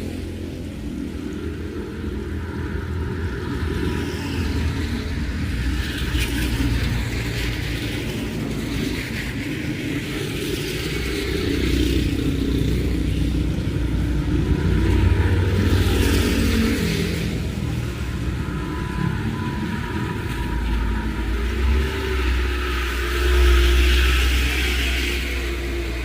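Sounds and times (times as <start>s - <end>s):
cars and motorcycles passing: 0.0s - 26.0s
rain hiss on wet road: 0.0s - 26.0s.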